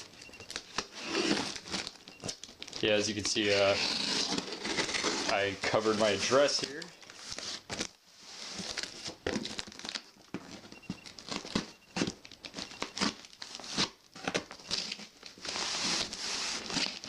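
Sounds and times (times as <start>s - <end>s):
packing wrap crinkling: 0.0s - 17.0s.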